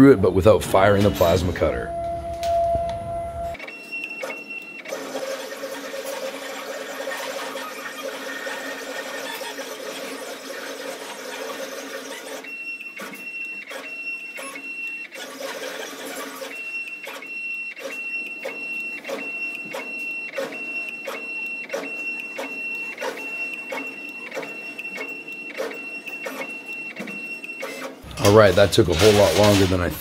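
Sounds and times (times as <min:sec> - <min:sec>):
motor high whine: 0:01.2 - 0:28.2
short mechanical clicks: 0:03.6 - 0:29.8.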